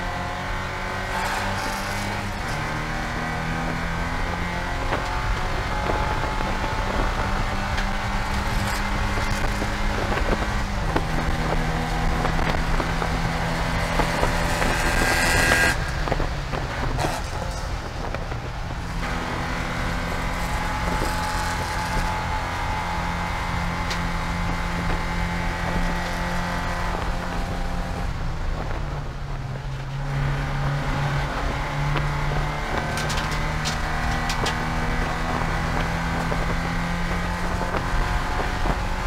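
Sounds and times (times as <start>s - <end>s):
race car engine at speed: 0.0s - 39.0s.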